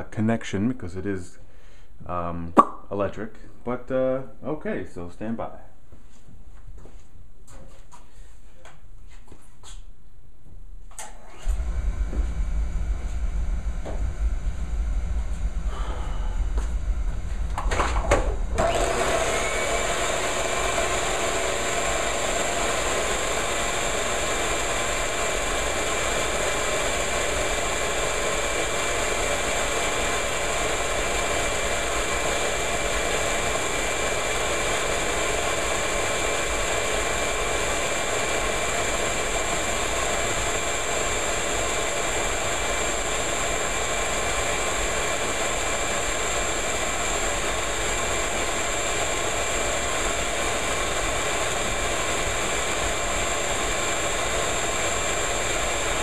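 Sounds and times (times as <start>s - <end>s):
shop vacuum running: 11.0s - 56.0s.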